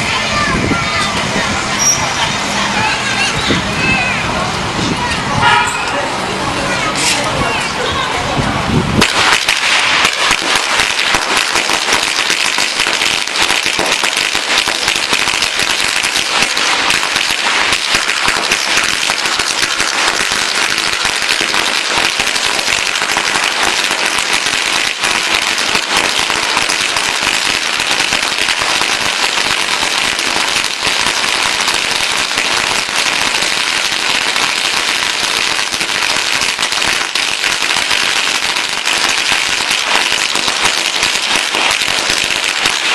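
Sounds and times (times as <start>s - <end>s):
firecrackers crackling: 0.0s - 42.9s.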